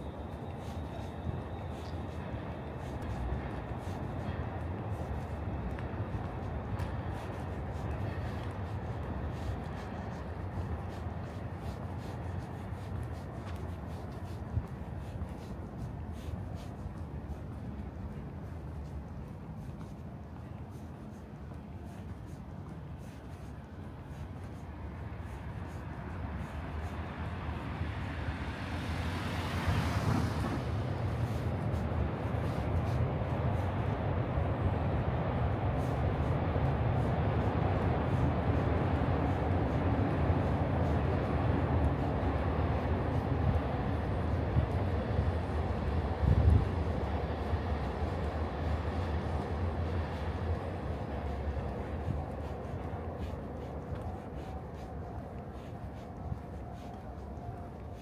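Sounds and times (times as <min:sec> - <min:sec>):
city street rumble: 0:00.0 - 0:58.0
vehicle tyre noise passing: 0:00.0 - 0:58.0.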